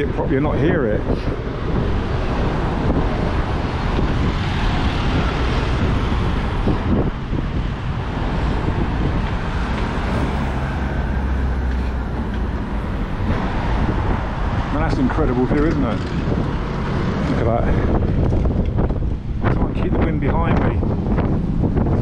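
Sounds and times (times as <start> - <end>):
road traffic passing: 0.0 - 22.0
vehicle engine hum: 0.0 - 22.0
wind noise on microphone: 0.0 - 22.0.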